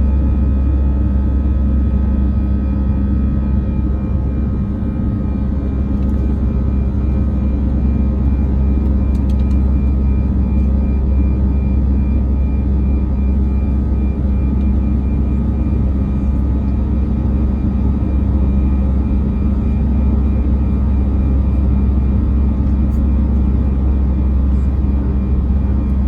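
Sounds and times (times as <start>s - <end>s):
jet engines droning: 0.0s - 26.0s.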